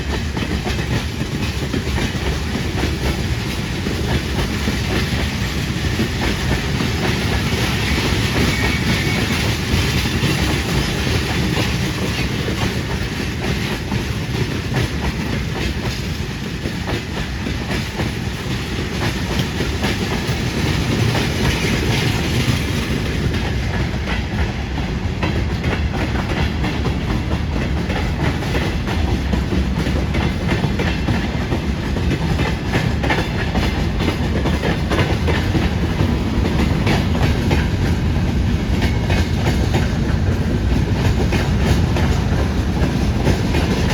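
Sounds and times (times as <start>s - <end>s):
train wheels clattering over rail joints: 0.0s - 43.9s.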